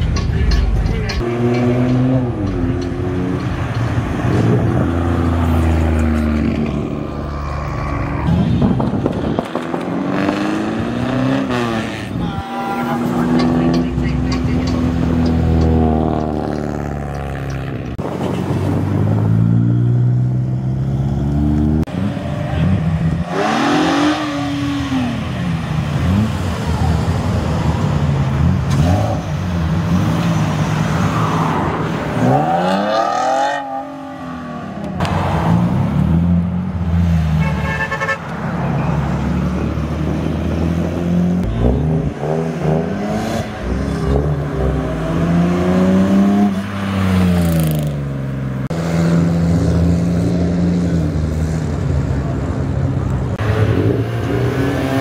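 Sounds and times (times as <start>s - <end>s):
sports cars revving past: 1.2s - 37.6s, 38.2s - 55.0s.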